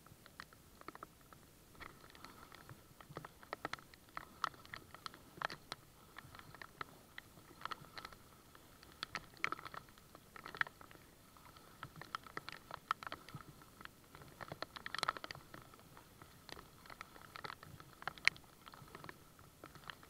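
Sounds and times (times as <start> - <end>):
raindrops pattering: 0.0 - 20.0
paddle strokes in water: 1.1 - 20.0.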